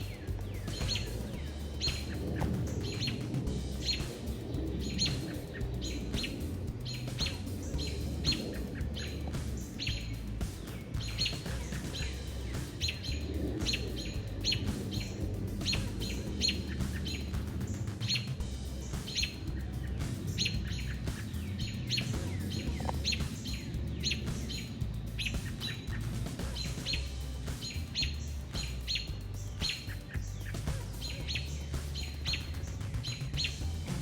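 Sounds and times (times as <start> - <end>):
low background rumble: 0.0 - 34.0
small birds calling: 0.0 - 34.0.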